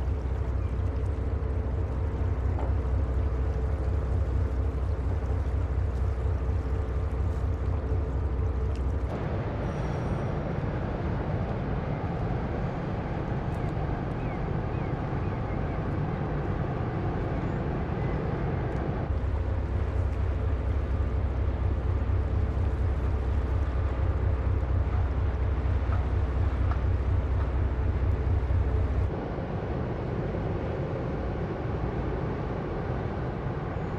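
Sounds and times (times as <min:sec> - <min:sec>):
ferry engines rumbling: 0:00.0 - 0:33.9
thin steady hum: 0:00.0 - 0:33.9.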